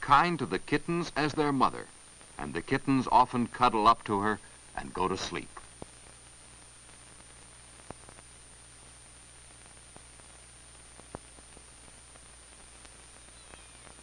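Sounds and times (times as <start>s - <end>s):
faint high whine: 0.0s - 14.0s
steady hiss: 0.0s - 14.0s.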